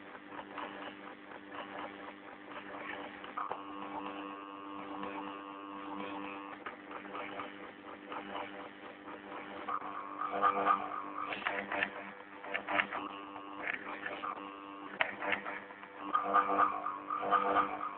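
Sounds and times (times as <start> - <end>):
scattered clicks: 0.0 - 17.9
steady pitched whine: 0.0 - 17.9
stepper motors humming: 0.2 - 17.9.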